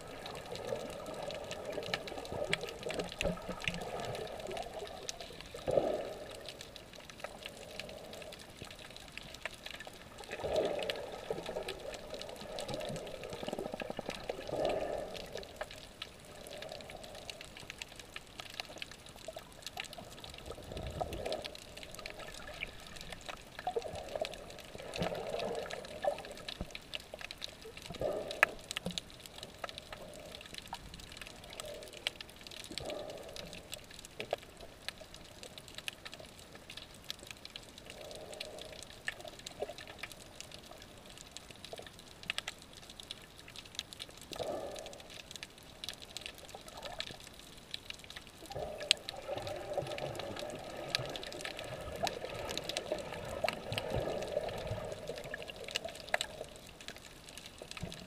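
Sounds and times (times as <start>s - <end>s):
muffled underwater sloshing: 0.0s - 41.4s, 43.3s - 58.0s
faint sharp clicks: 10.8s - 58.0s.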